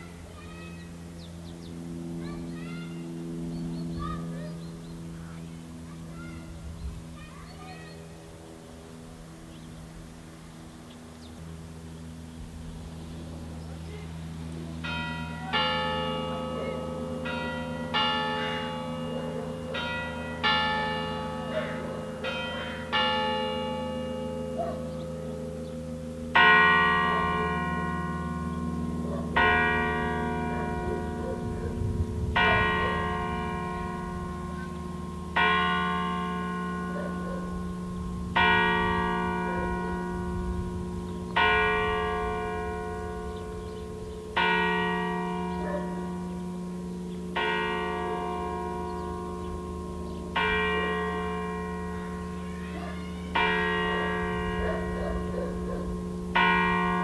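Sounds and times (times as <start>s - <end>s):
church bells ringing: 0.0s - 57.0s.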